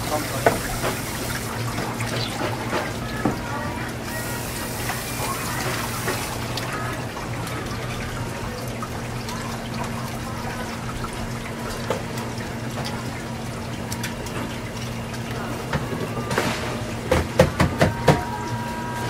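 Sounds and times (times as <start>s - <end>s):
tap water splashing on cutting board: 0.0s - 3.6s, 4.8s - 7.8s, 8.6s - 18.4s.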